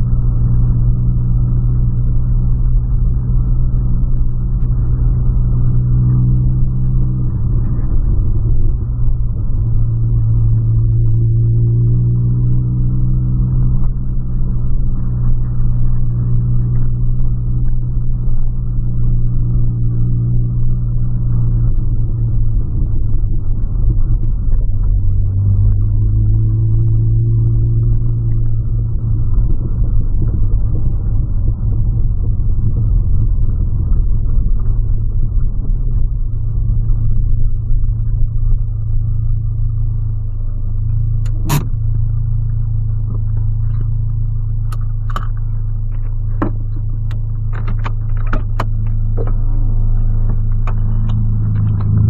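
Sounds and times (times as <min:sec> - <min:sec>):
car engine hum in cabin: 0:00.0 - 0:52.0.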